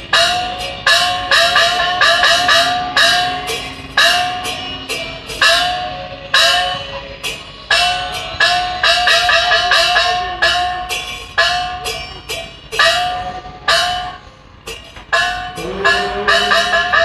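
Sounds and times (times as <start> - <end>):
gongs and cymbals struck: 0.0 - 17.0.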